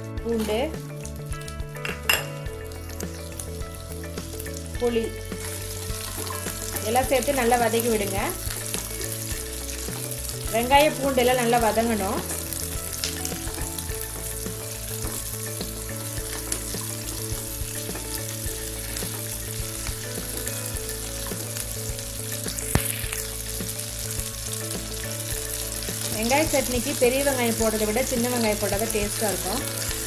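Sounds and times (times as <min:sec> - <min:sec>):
aromatics sizzling in hot oil: 0:00.0 - 0:30.0.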